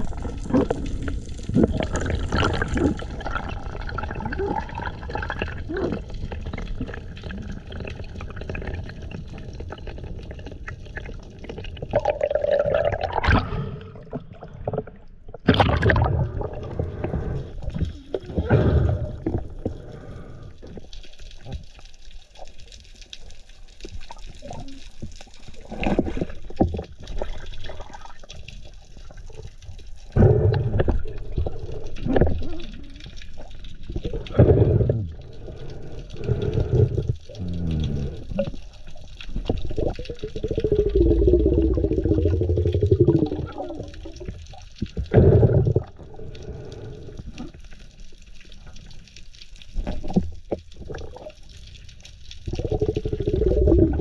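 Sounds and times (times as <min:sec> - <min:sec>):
underwater water rushing: 0:00.0 - 0:21.6, 0:22.8 - 0:49.0, 0:49.6 - 0:54.0
underwater bubbling gurgles: 0:00.0 - 0:54.0.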